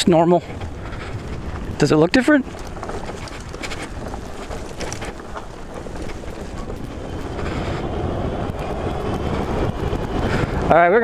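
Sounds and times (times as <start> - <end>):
rattles and clicks: 0.0 - 10.8
electric bike rolling over dirt: 0.0 - 11.0.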